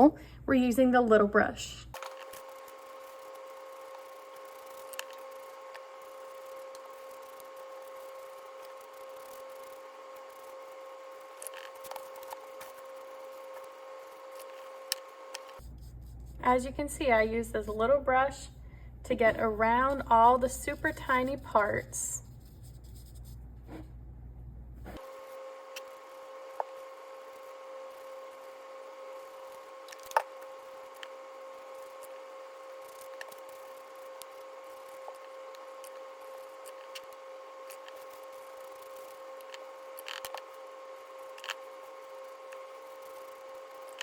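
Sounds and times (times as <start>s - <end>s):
steady hum with hiss: 0.0s - 44.0s.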